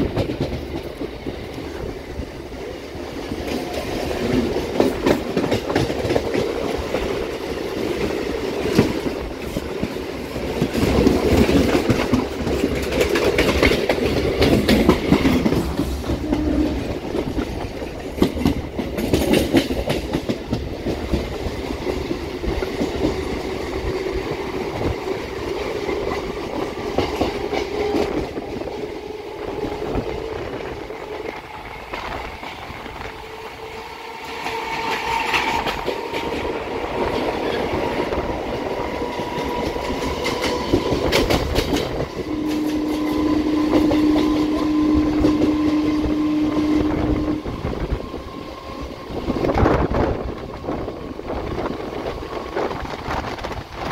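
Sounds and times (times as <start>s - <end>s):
freight train wheels passing: 0.0s - 53.9s
train rumble and rail clatter: 0.0s - 53.9s.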